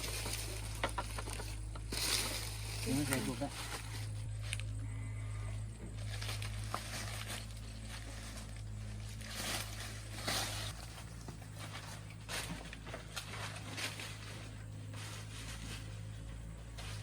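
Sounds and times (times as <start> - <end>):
plant stalks rustling and scraping: 0.0 - 4.8, 5.6 - 17.0
low hum: 0.0 - 17.0.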